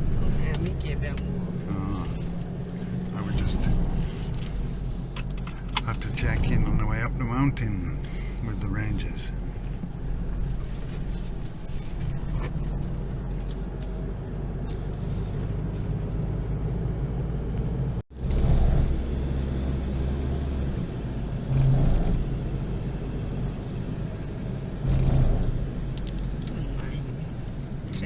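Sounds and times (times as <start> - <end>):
car driving low rumble: 0.0 - 28.0.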